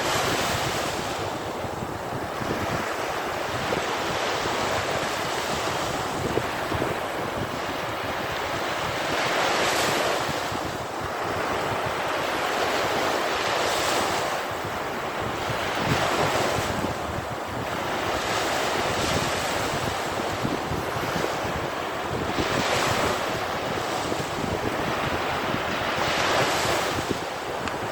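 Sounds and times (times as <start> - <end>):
sea waves breaking on beach: 0.0 - 27.9
wind buffeting microphone: 0.0 - 27.9.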